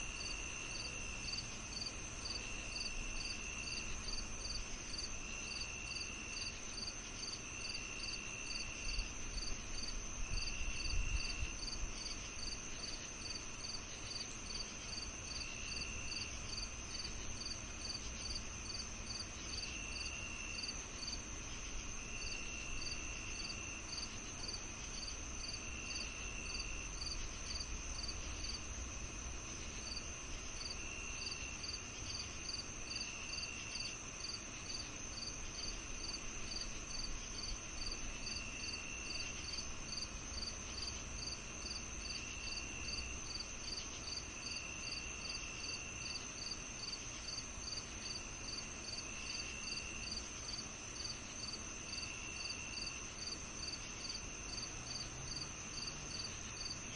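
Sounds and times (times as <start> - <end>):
crickets chirping: 0.0 - 56.9.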